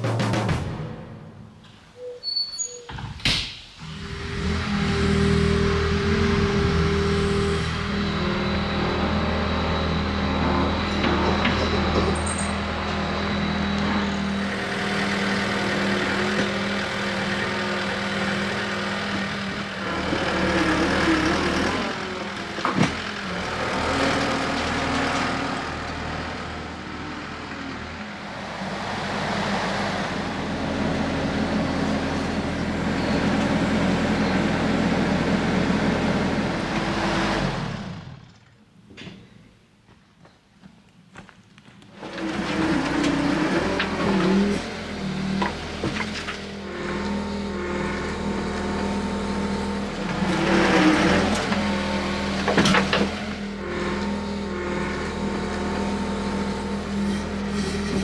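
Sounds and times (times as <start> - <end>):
diesel engines working: 3.8 - 40.0, 41.2 - 58.0.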